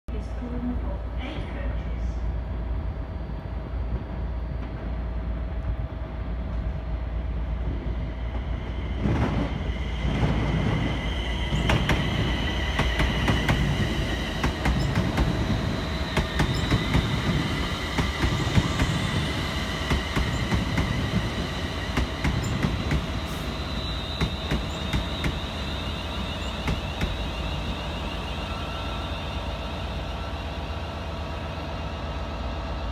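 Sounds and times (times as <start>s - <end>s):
electric train passing: 1.8s - 32.9s.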